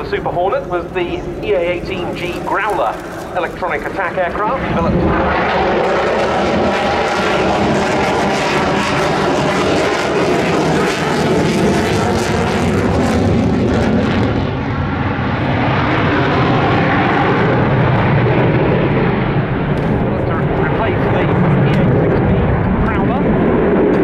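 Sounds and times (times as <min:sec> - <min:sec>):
deep jet rumble: 0:00.0 - 0:24.0
jet engine roar: 0:00.0 - 0:24.0.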